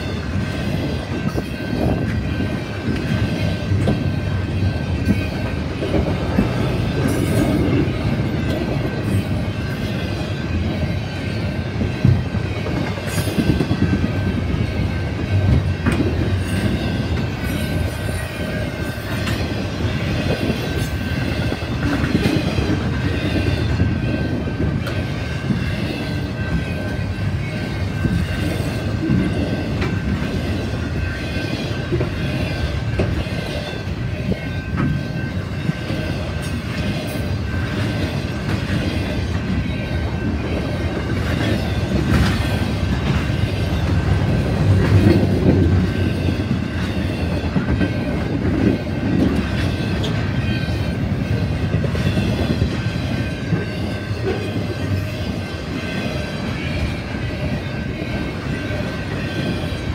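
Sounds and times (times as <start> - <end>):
wheels clickety-clack: 0.0 - 57.0
rumble of train wheels on rail: 0.0 - 59.9.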